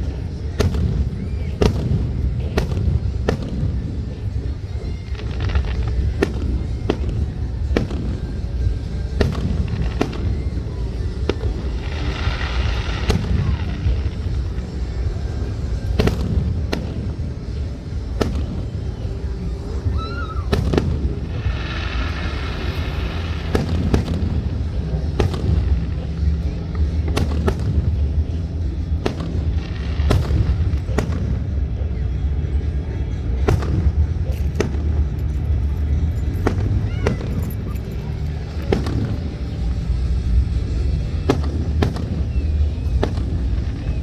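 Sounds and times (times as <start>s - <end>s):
fireworks bangs: 0.0s - 44.0s
steady low rumble: 0.0s - 44.0s.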